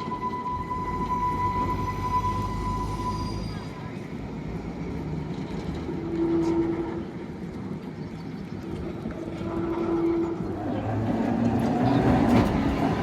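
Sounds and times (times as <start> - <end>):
tram humming: 0.0 - 13.0.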